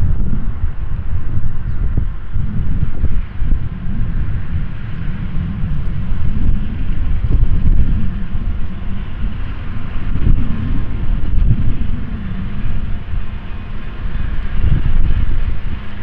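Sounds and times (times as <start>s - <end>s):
steam locomotive hiss and rumble: 0.0s - 16.0s
wind buffeting microphone: 0.0s - 16.0s.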